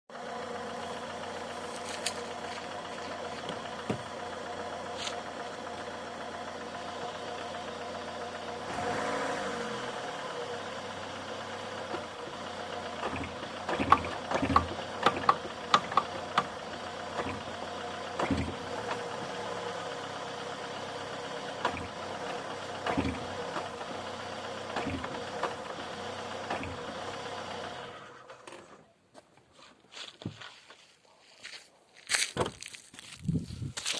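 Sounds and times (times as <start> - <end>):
car engine idling: 0.1 - 29.0.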